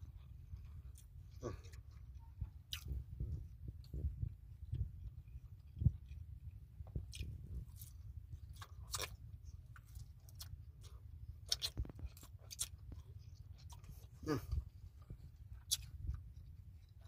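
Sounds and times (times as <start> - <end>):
steady low rumble: 0.0 - 17.0
wet chewing and lip smacks: 0.0 - 17.0.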